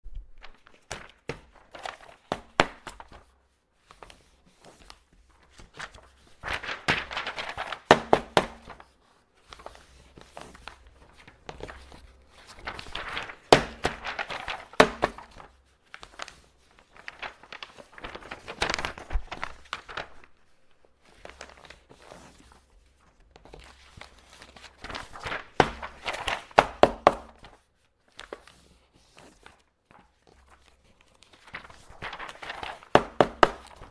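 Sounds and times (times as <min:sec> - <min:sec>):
paper rustling and crackling: 0:00.1 - 0:33.9.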